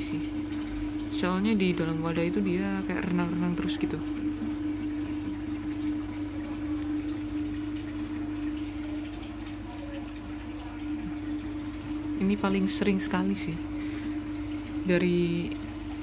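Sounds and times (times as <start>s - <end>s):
air stone bubbling: 0.0s - 16.0s
aquarium filter hum: 0.0s - 16.0s.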